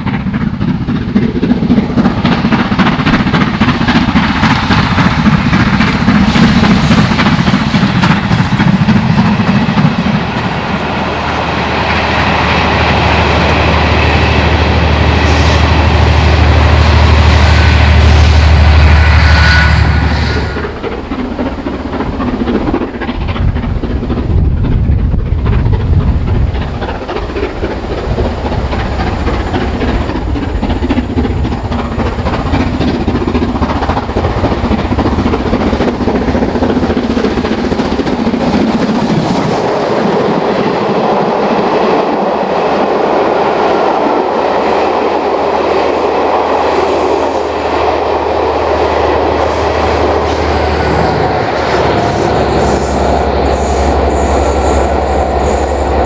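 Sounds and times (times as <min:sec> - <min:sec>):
wheels clicking over rail joints: 0:00.0 - 0:16.8, 0:20.0 - 0:56.0
train rolling past: 0:00.0 - 0:56.0
wind rumbling on microphone: 0:00.0 - 0:56.0.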